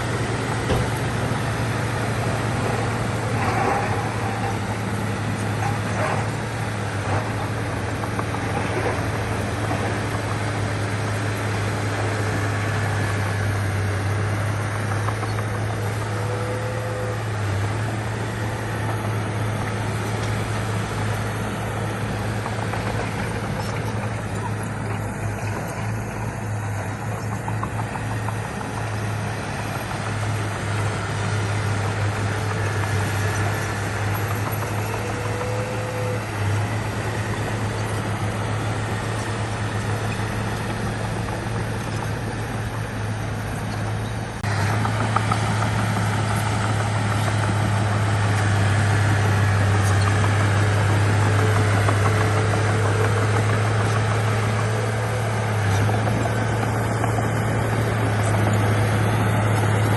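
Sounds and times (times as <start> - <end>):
diesel engine deep hum: 0.0 - 59.9.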